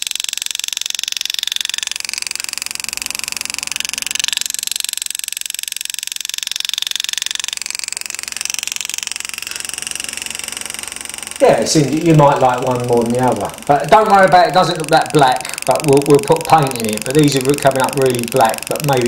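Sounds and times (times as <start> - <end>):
engraving tool chattering on metal: 0.0 - 19.0.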